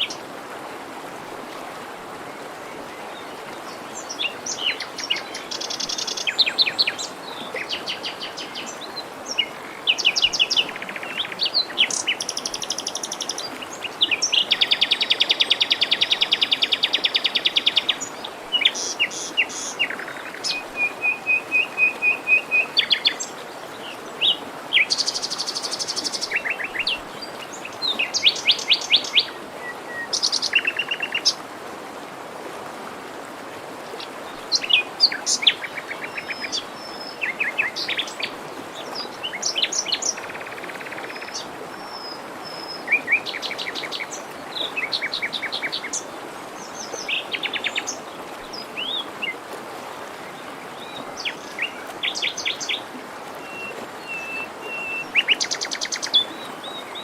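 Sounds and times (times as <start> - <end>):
forest stream rushing: 0.0 - 57.0.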